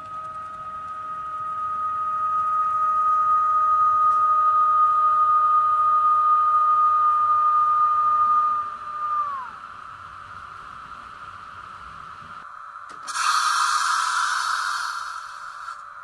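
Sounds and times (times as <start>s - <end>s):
model locomotive motor whining: 0.0s - 16.0s.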